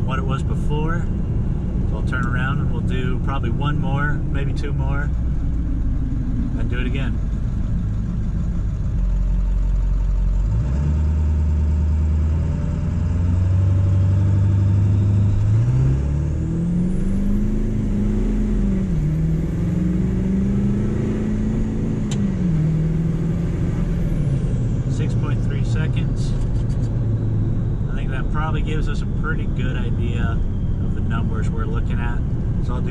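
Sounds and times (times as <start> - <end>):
diesel engine accelerating: 0.0 - 32.9.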